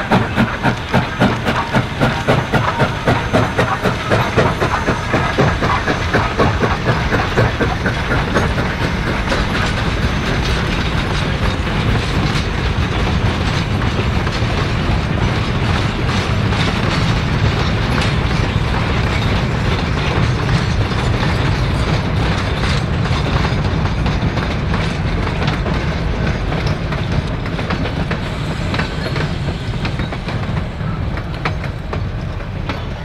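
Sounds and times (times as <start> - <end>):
clickety-clack over rail joints: 0.0 - 33.0
train cars rumbling: 0.0 - 33.0.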